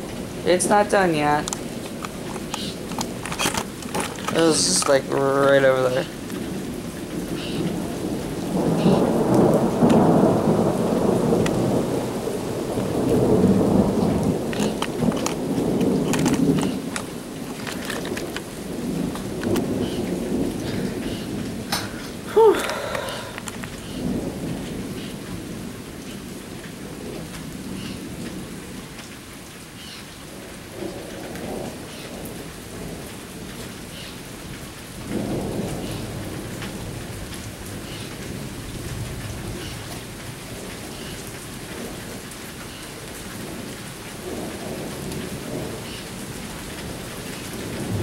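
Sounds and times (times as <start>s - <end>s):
thunder rumbling: 0.0s - 28.9s, 30.4s - 42.3s, 43.3s - 48.0s
rain falling: 0.0s - 48.0s.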